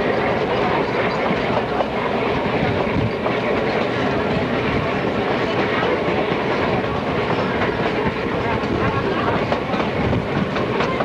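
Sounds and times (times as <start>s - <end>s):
train wheels rumbling and clattering: 0.0s - 11.0s.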